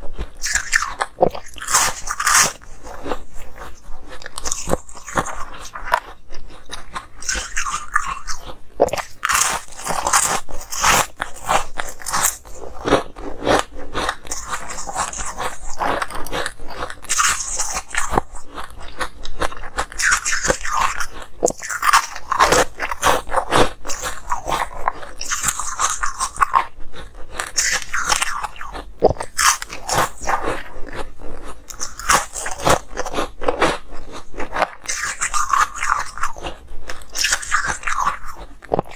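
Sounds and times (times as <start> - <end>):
ice cubes crunching between teeth: 0.0 - 38.9.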